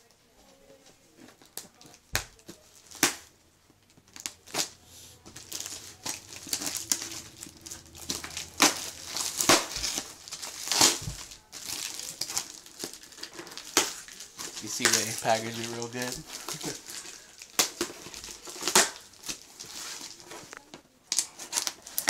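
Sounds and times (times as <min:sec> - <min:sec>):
plastic bag crinkling: 0:01.2 - 0:22.0.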